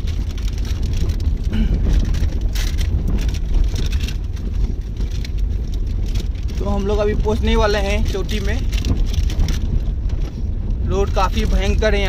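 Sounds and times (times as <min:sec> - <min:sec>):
car interior low rumble: 0:00.0 - 0:12.0
tyres crunching over stones: 0:00.0 - 0:12.0.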